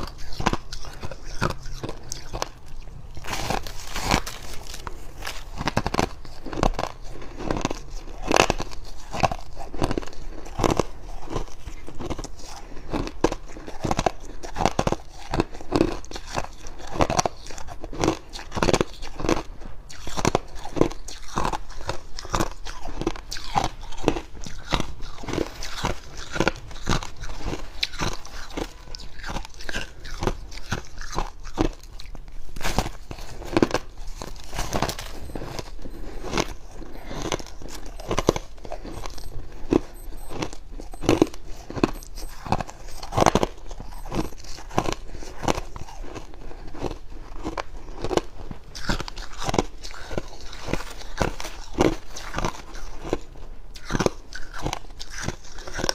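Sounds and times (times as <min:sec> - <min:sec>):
frost crunching while chewed: 0:00.0 - 0:55.9.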